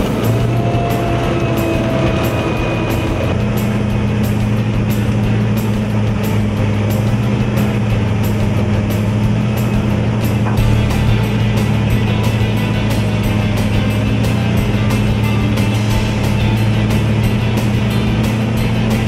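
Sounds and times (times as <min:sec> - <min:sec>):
background music with a beat: 0:00.0 - 0:19.0
wood chipper running: 0:00.0 - 0:19.0.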